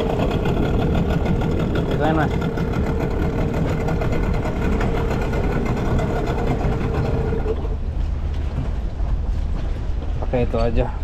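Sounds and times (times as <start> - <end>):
outboard motor droning: 0.0 - 10.0.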